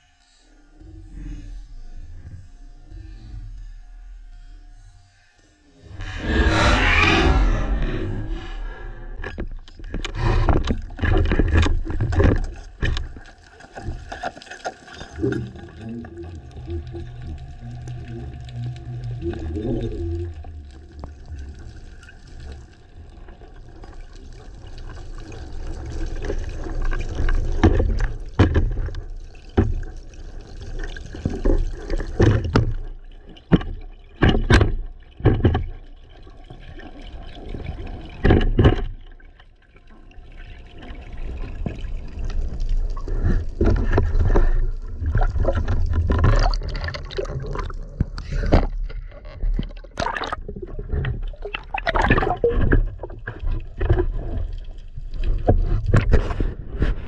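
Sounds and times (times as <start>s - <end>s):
underwater gurgling and rushing water: 5.6s - 57.0s.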